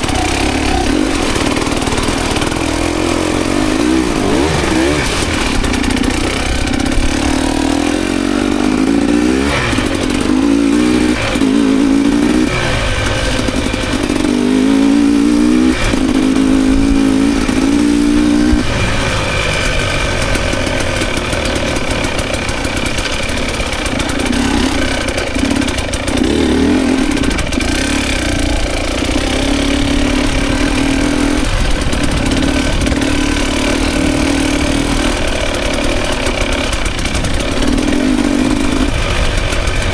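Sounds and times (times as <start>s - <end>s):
dirt bike engine revving: 0.0s - 39.9s
track noise: 0.0s - 39.9s
wind: 0.0s - 39.9s.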